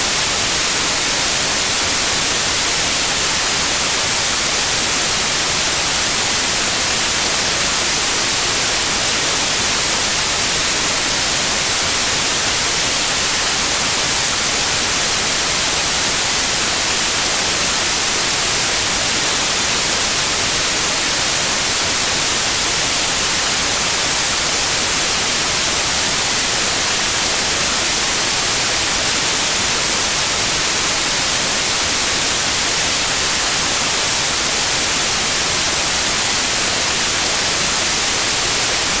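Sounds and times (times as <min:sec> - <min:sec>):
high-pitched pure tone: 0:00.0 - 0:39.0
white noise hiss: 0:00.0 - 0:39.0.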